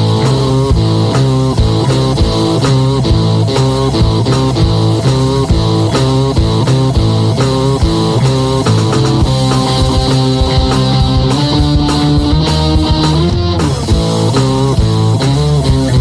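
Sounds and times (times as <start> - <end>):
rock music with guitar and drums: 0.0 - 16.0.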